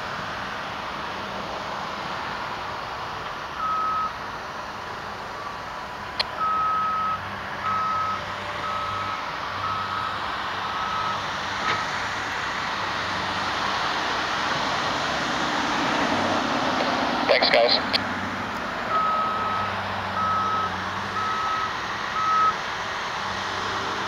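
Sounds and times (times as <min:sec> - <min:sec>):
aircraft engine and airflow noise: 0:00.0 - 0:24.0.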